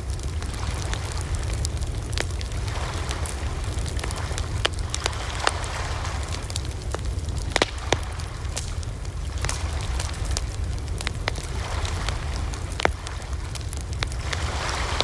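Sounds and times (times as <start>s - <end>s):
burning wood popping and snapping: 0.0s - 15.0s
flames rumbling and hissing: 0.0s - 15.0s.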